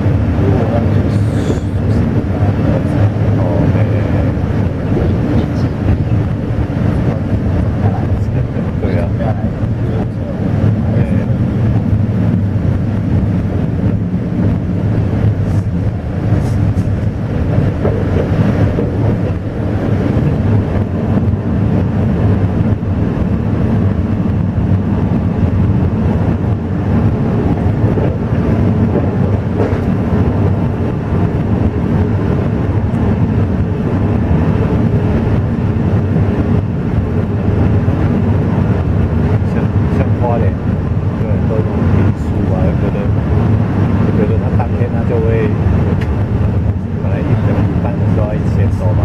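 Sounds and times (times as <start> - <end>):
train carriage rumbling: 0.0 - 49.0.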